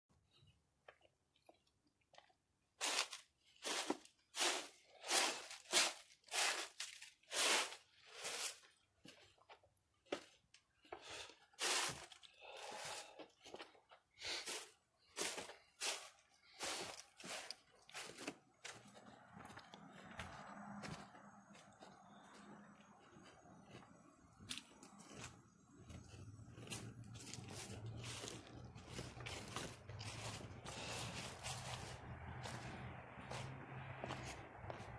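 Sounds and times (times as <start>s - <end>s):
footsteps crunching dry leaves: 2.8s - 8.8s, 11.6s - 13.2s, 14.3s - 34.9s.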